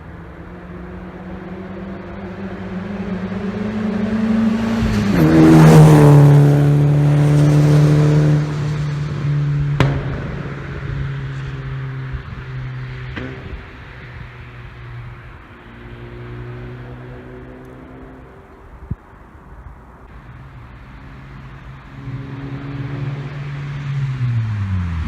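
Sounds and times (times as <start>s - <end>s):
car engine driving past: 0.2s - 18.7s, 20.1s - 25.0s.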